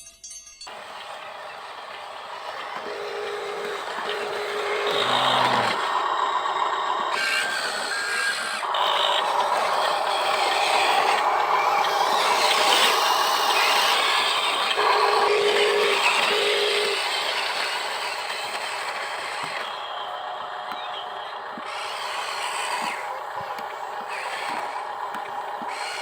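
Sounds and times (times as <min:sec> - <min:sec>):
toy electric motors whirring: 0:00.7 - 0:26.0.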